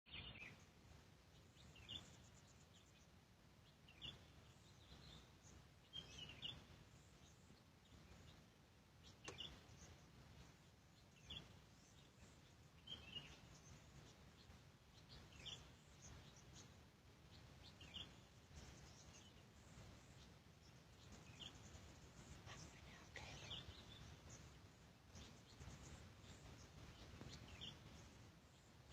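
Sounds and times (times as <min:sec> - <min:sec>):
faint bird chirps: 0:00.1 - 0:28.9.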